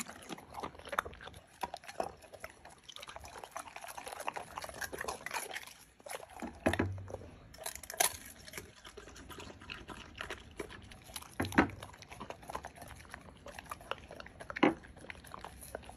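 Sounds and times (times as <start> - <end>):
dog licking and chewing: 0.0 - 15.9.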